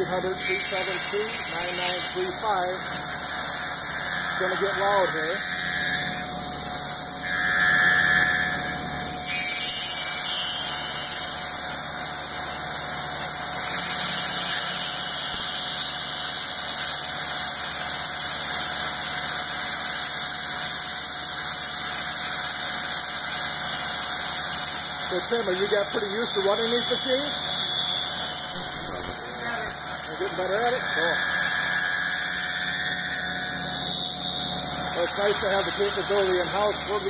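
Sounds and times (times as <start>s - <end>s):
milling machine cutting: 0.0s - 37.0s.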